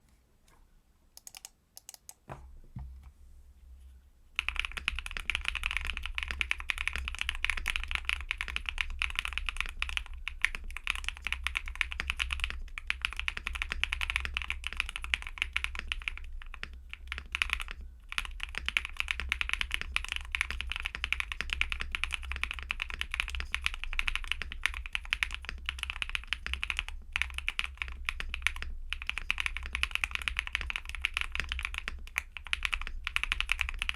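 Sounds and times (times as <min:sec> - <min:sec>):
mechanical keyboard typing: 0:01.2 - 0:02.3, 0:04.4 - 0:33.9.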